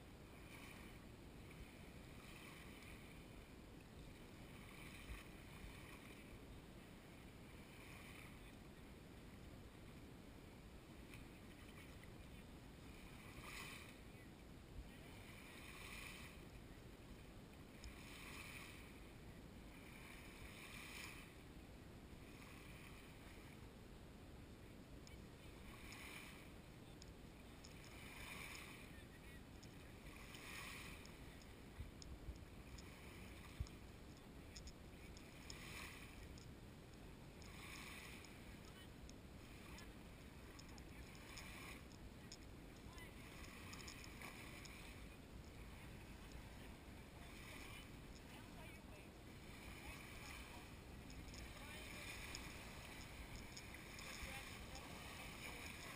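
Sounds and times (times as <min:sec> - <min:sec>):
small waves lapping on sand: 0:00.0 - 0:23.7, 0:24.4 - 0:55.9
low rumble of wind: 0:00.0 - 0:55.9.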